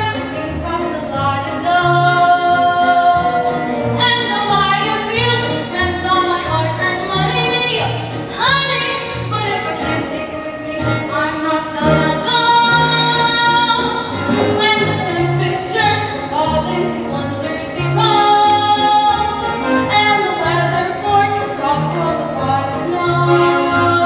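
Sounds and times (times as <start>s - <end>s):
instrumental accompaniment with bass: 0.0s - 24.0s
woman singing: 0.0s - 24.0s.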